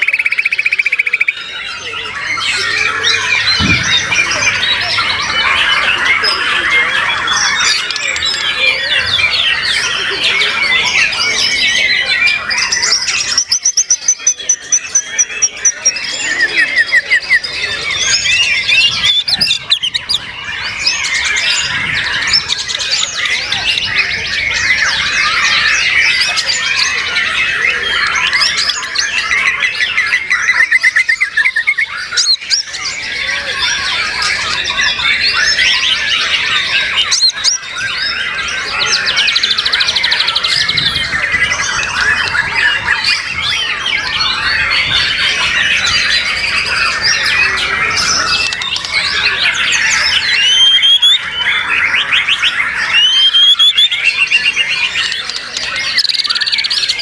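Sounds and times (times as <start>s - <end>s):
songbirds trilling and whistling: 0.0s - 57.0s.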